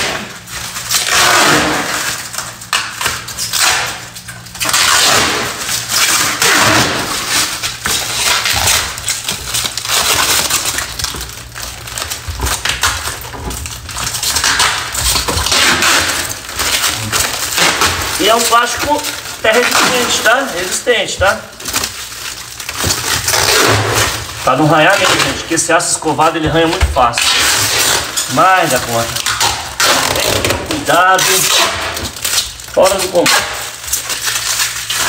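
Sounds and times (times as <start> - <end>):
plastic film rustling and crinkling: 0.0 - 35.0.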